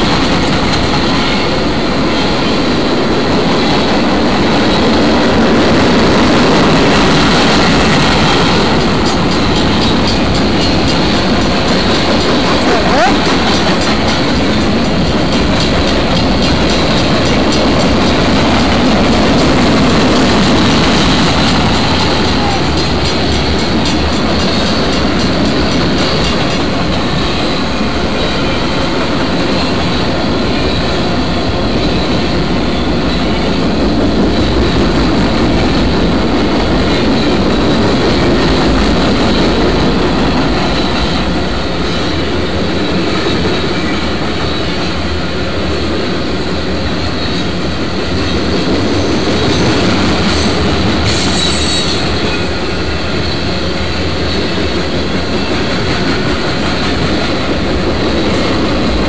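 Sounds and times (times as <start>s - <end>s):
steel wheels clattering on rails: 0.0s - 59.0s.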